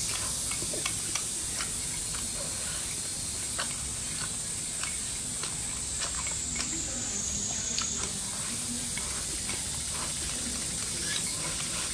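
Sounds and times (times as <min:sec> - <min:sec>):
steady hiss: 0:00.0 - 0:11.9.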